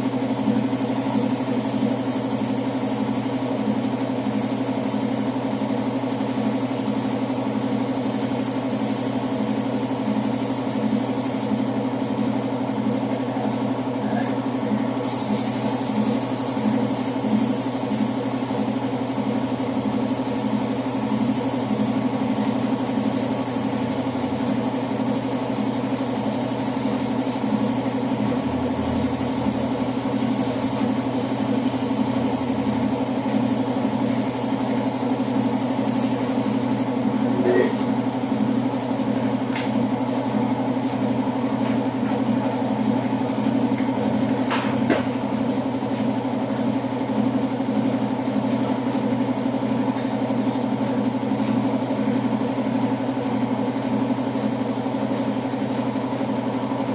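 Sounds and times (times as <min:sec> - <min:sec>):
motor running steadily: 0:00.0 - 0:56.9.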